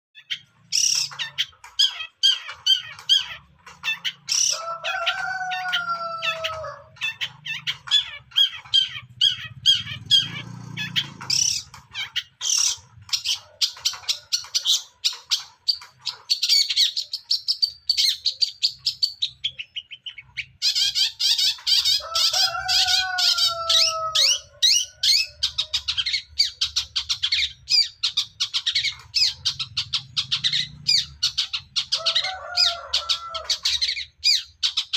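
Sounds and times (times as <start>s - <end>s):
bird singing rapid chattering notes: 0.2s - 34.9s.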